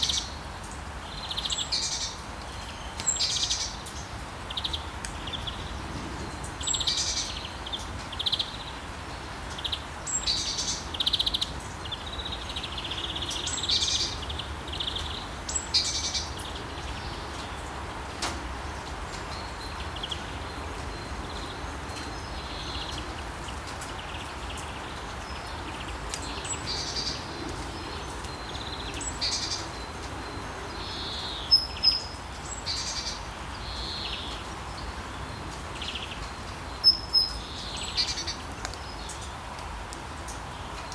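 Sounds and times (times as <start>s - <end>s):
light rain hiss: 0.0s - 40.9s
small birds chirping: 0.0s - 40.9s.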